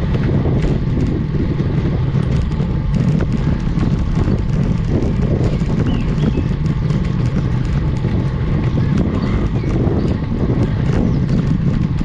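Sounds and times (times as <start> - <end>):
bicycle ticking: 0.0 - 12.0
road and tyre noise: 0.0 - 12.0
wind rumble on microphone: 0.0 - 12.0.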